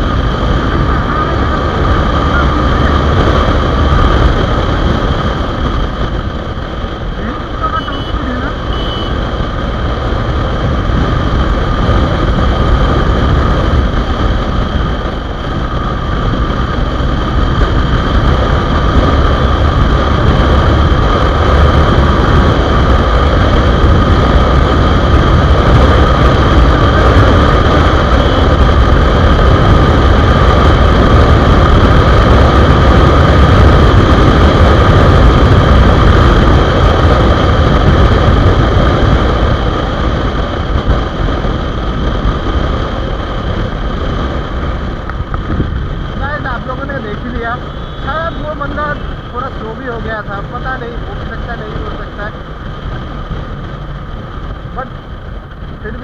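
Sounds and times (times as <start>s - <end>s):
motorcycle engine drone: 0.0s - 56.0s
wind rushing on microphone: 0.0s - 56.0s.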